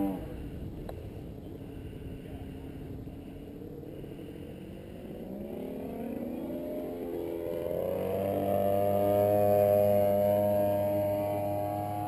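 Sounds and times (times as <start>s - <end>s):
model airplane engine: 0.0s - 12.0s.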